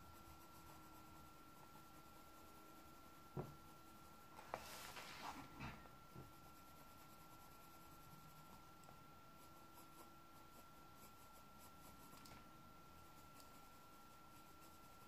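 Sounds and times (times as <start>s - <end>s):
pencil scratching on paper: 0.0s - 4.9s, 6.2s - 12.2s, 13.0s - 15.0s.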